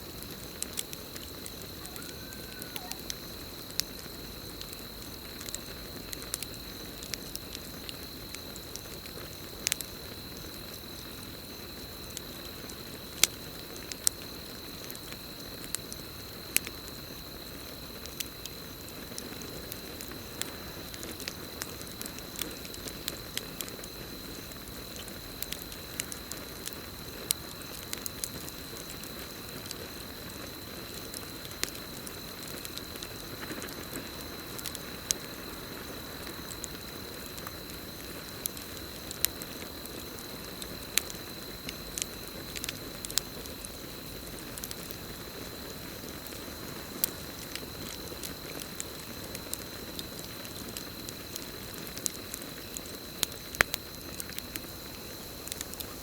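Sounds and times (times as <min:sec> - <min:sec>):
campfire crackling: 0:00.0 - 0:56.0
crickets trilling: 0:00.0 - 0:56.0.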